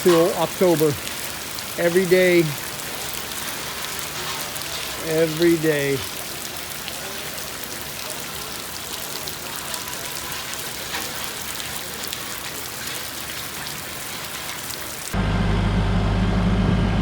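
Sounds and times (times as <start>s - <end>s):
steady rain falling: 0.0s - 15.2s.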